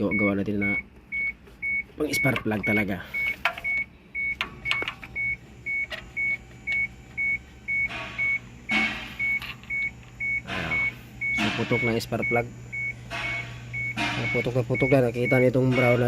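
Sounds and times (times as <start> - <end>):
repeating electronic beep: 0.0 - 16.0.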